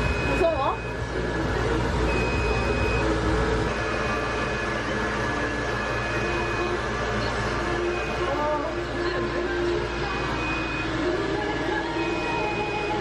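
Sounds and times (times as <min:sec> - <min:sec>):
mechanical hum and whir: 0:00.0 - 0:13.0.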